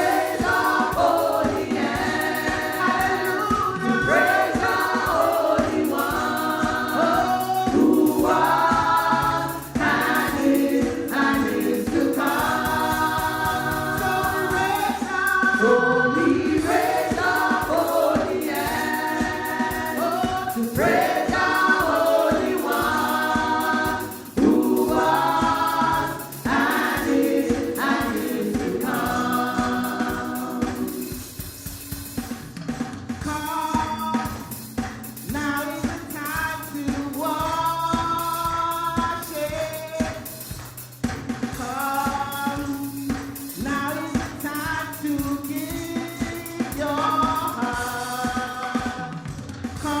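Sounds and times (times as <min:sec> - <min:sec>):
gospel choir singing: 0:00.0 - 0:32.4, 0:33.2 - 0:40.6, 0:41.3 - 0:50.0
band accompaniment: 0:00.0 - 0:50.0.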